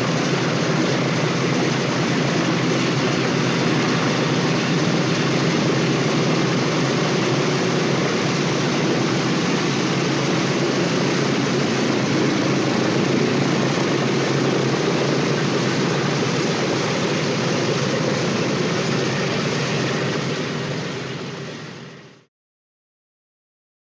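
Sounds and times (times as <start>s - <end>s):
aircraft engines droning: 0.0s - 22.3s.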